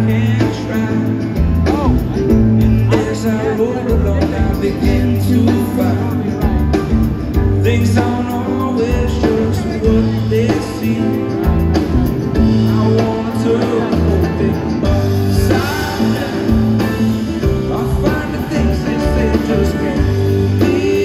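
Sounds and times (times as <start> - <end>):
bass line: 0.0 - 21.0
piano: 0.0 - 21.0
steady drum beat: 0.0 - 21.0.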